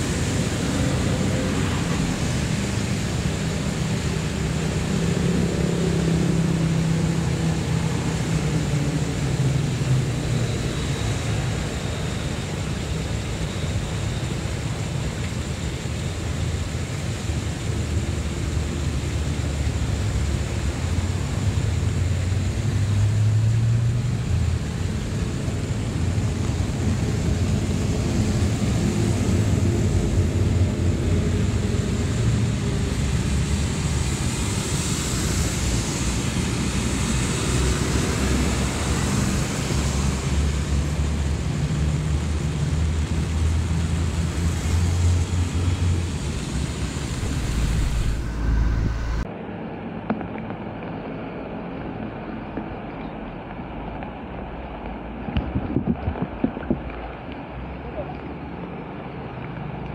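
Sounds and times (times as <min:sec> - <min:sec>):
tyre hiss of passing vehicle: 0:00.0 - 0:49.3
traffic rumble on wet road: 0:00.0 - 0:59.9.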